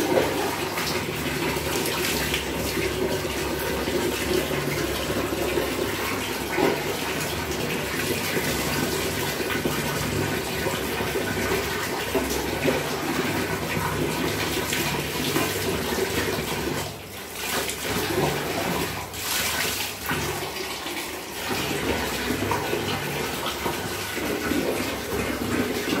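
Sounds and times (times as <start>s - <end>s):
water pouring and splashing: 0.0s - 26.0s.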